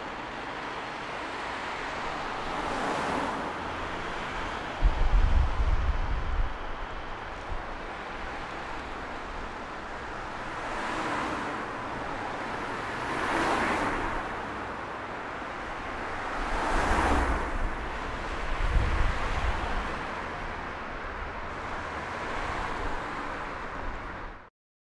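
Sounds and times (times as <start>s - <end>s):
car engines and tyres: 0.0s - 24.5s
vehicles passing by: 0.0s - 24.5s.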